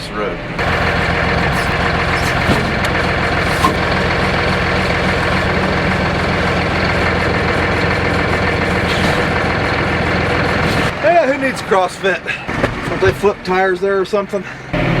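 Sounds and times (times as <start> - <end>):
engine idling: 0.4 - 15.0.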